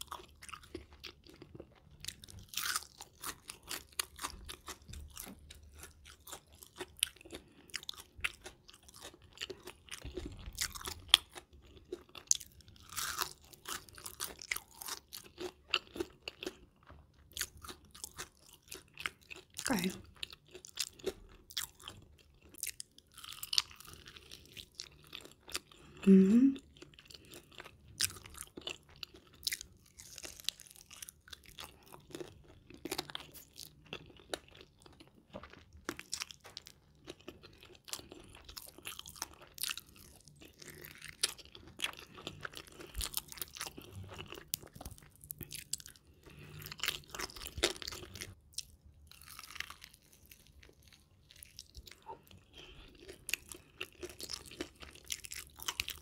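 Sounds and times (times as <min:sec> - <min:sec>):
crunching fried chicken: 0:00.0 - 0:26.0, 0:26.6 - 0:56.0
person chewing: 0:00.0 - 0:56.0.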